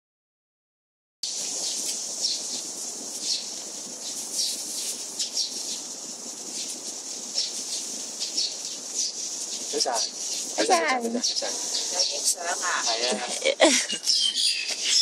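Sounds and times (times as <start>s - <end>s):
birds chirping: 1.2s - 15.0s
steady high hiss: 1.2s - 15.0s.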